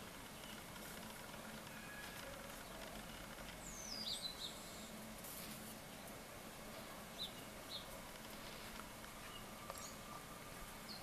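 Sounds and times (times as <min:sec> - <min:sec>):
low steady hum: 0:00.0 - 0:11.0
faint bird chirps: 0:00.2 - 0:05.1, 0:05.9 - 0:11.0.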